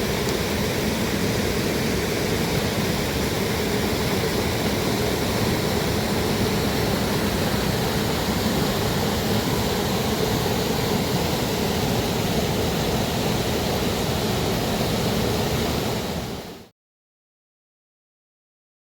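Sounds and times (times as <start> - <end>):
stream rushing over rocks: 0.0 - 16.7.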